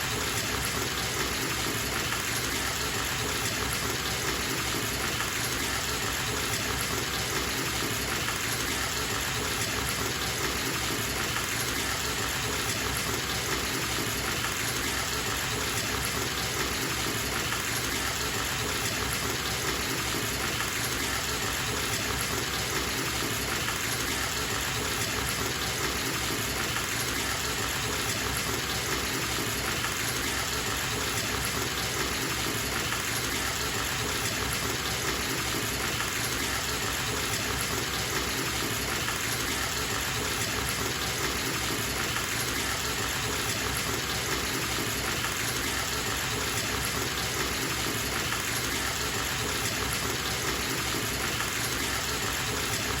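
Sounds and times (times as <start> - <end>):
water gushing into bathtub: 0.0 - 53.0.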